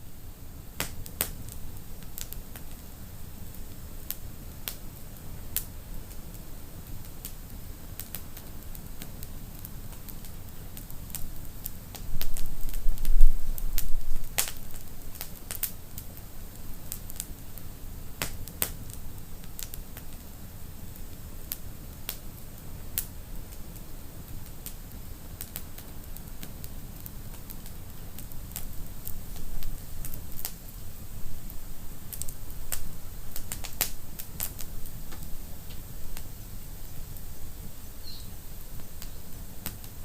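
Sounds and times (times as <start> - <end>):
low rumble of flames: 0.0 - 40.0
wood fire crackling and popping: 0.6 - 40.0.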